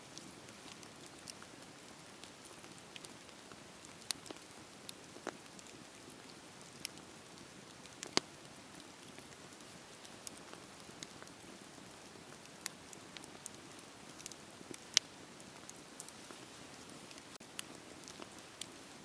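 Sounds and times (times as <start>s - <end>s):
soft steady hiss: 0.0s - 19.0s
wood fire crackling: 0.0s - 19.0s.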